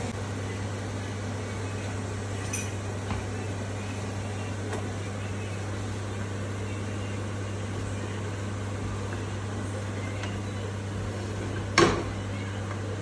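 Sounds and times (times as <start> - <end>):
kitchen exhaust fan hum: 0.0 - 13.0.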